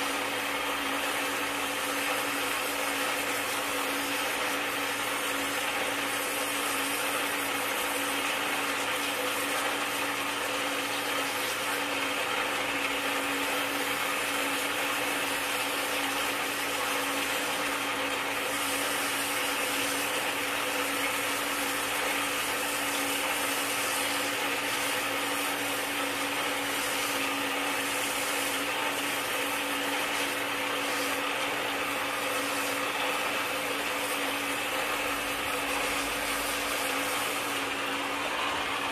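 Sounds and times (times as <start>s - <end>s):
water spraying from hose nozzle: 0.0s - 38.9s.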